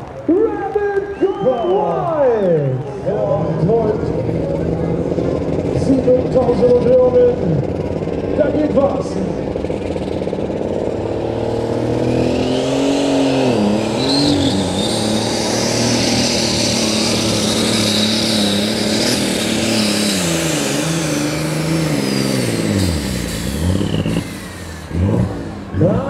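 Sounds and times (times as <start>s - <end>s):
tractor engine running flat out: 0.0s - 26.0s.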